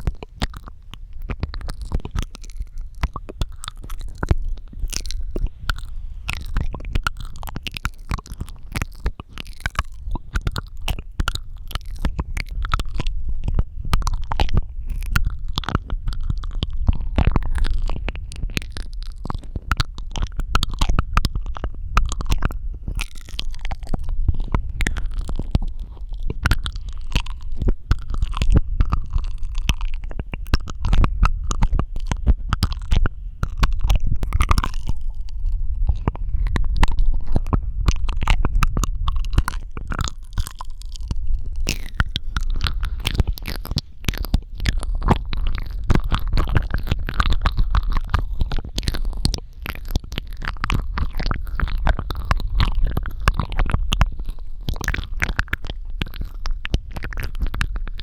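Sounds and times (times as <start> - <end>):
low rumble: 0.0 - 58.0
mouth clicks and smacks: 0.0 - 58.0.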